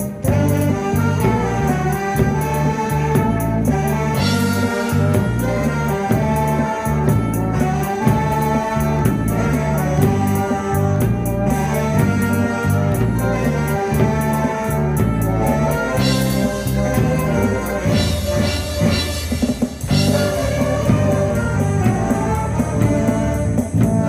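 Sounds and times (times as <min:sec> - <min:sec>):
amateur band playing trot music: 0:00.0 - 0:24.0.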